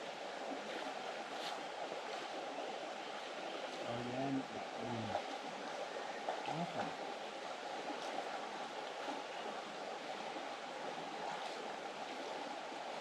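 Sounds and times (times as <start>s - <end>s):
creek flowing: 0.0s - 13.0s.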